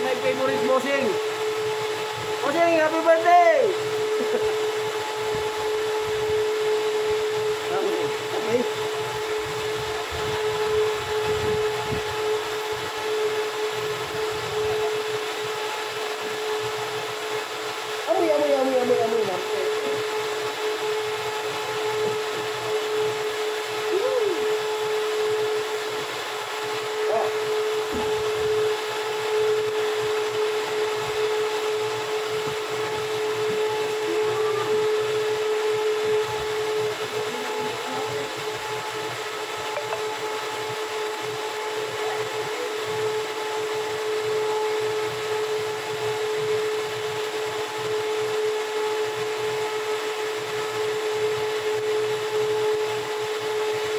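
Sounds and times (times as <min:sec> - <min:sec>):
constant whine: 0:00.0 - 0:53.9
machine humming: 0:00.0 - 0:53.9.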